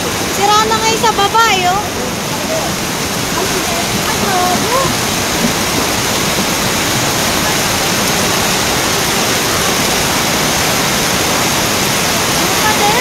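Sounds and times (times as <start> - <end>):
floodwater torrent rushing: 0.0 - 13.0
heavy rain: 0.0 - 13.0.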